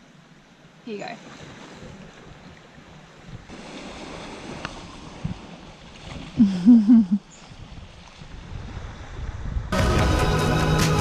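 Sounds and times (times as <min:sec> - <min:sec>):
wind: 0:00.0 - 0:11.0
surf: 0:00.9 - 0:11.0.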